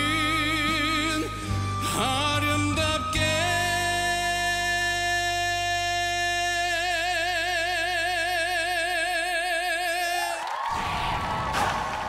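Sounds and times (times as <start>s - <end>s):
man singing long note: 0.0s - 10.4s.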